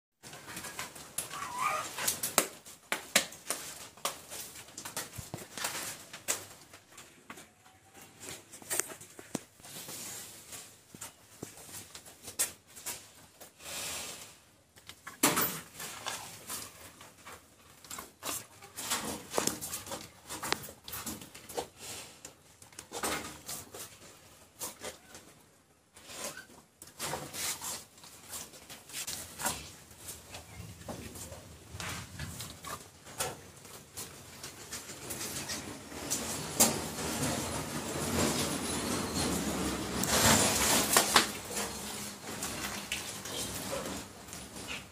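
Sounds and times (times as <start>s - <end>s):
cattle moving and feeding: 0.2s - 44.9s.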